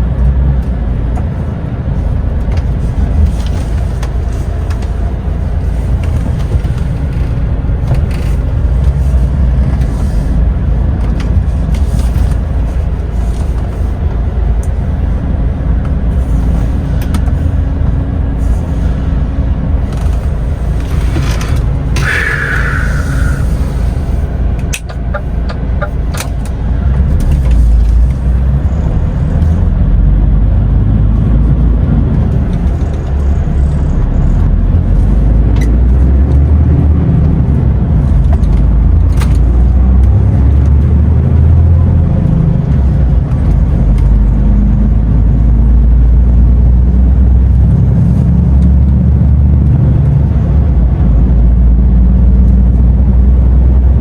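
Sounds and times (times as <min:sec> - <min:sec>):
truck diesel engine rumbling: 0:00.0 - 0:49.3.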